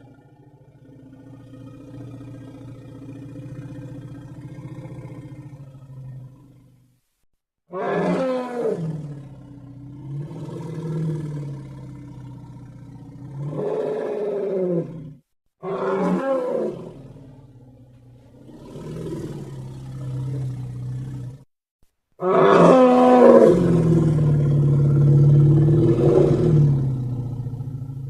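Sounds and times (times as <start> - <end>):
deep dinosaur roars: 0.1 - 6.5, 7.7 - 21.4, 22.2 - 28.0.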